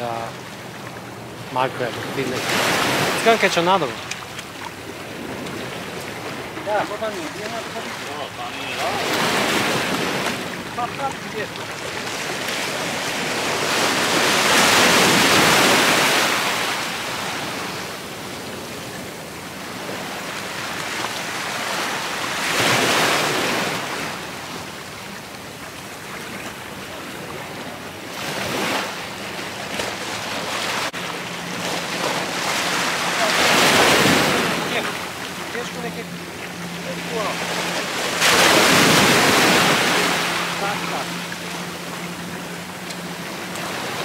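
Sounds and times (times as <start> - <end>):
sea waves washing over rocks: 1.5 - 24.7, 29.6 - 44.0.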